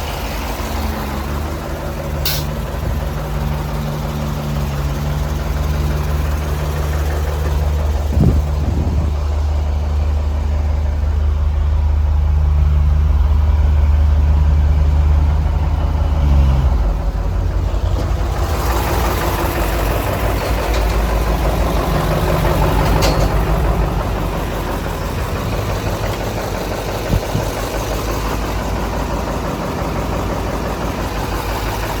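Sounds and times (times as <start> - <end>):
engine knock: 0.0 - 12.5, 17.2 - 32.0
diesel truck engine idling: 0.0 - 32.0.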